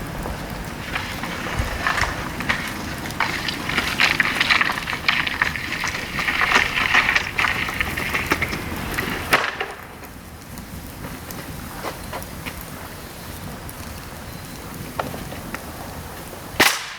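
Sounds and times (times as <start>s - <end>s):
bamboo fire crackling and popping: 0.0s - 16.9s
fire hissing: 0.0s - 16.9s.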